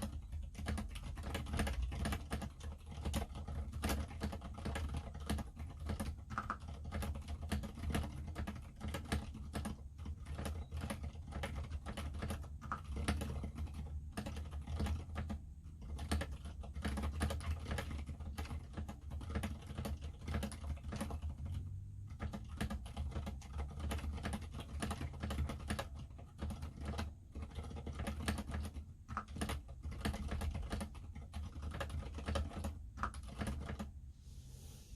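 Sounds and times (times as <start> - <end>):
typing on mechanical keyboard: 0.0 - 33.9.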